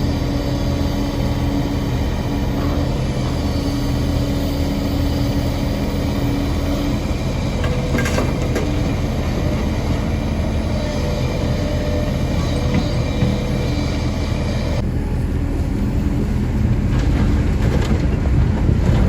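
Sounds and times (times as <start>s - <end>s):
diesel excavator engine running: 0.0s - 19.0s.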